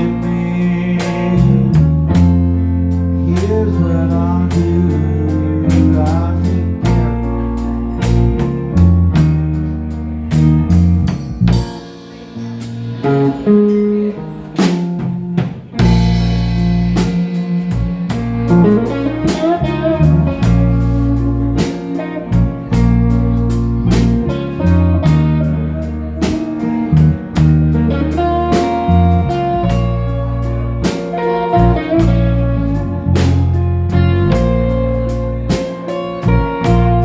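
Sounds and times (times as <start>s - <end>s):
blues band playing: 0.0s - 37.0s
lead guitar: 0.0s - 37.0s.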